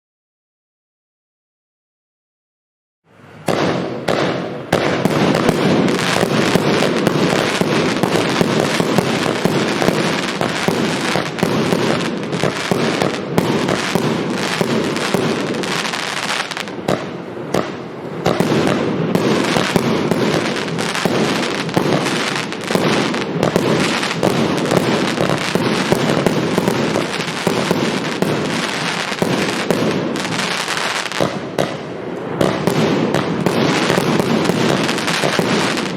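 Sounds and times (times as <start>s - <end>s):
fireworks cake firing: 3.4s - 35.9s.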